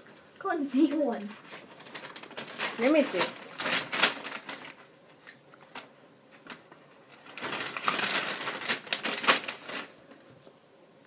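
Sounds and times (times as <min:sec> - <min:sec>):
jelly beans rattling in a bag: 0:00.8 - 0:10.0.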